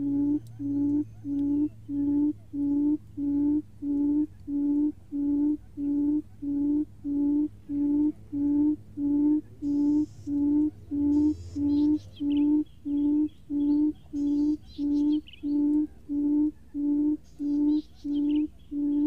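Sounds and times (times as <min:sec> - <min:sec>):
low hooting bird call: 0:00.0 - 0:19.0
steady low hum: 0:00.0 - 0:19.0.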